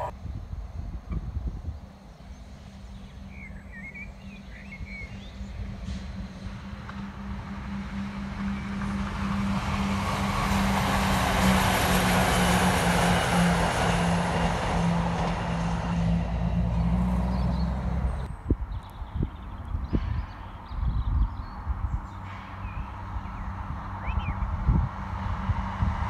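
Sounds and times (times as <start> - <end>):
train passing at speed: 0.0 - 18.5, 19.3 - 26.0.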